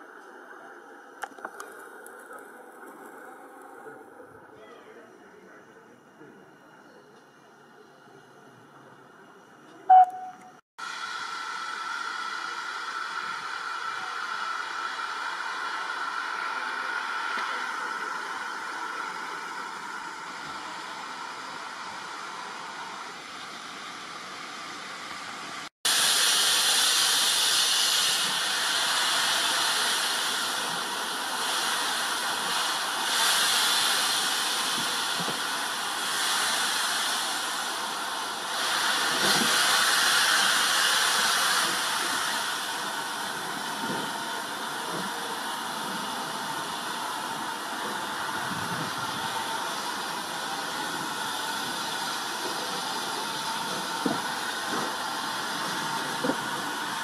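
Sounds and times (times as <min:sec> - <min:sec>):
faint outdoor noise: 0:00.0 - 0:57.0
locomotive steam hissing: 0:10.8 - 0:57.0.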